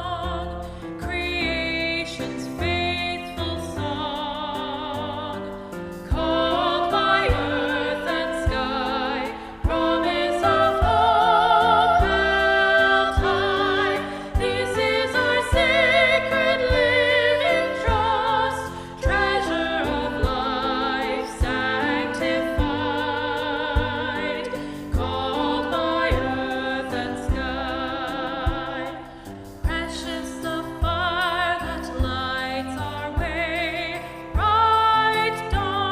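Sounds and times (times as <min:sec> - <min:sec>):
instrumental accompaniment: 0:00.6 - 0:35.9
voices singing with vibrato: 0:06.0 - 0:35.9.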